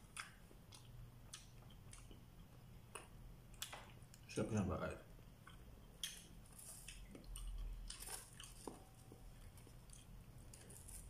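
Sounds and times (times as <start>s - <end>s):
person chewing: 0.0s - 4.3s, 5.4s - 11.0s.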